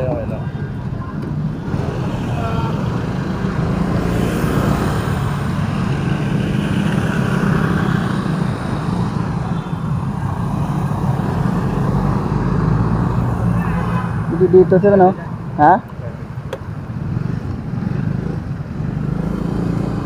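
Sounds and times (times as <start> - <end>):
car engine and road hum: 0.0 - 20.0
traffic noise: 0.0 - 20.0.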